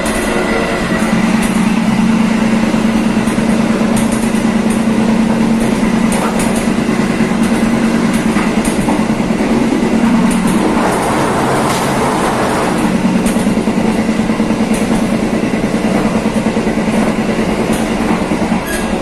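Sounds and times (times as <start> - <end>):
train rolling rumble: 0.0 - 19.0
wheels clicking on rails: 0.0 - 19.0.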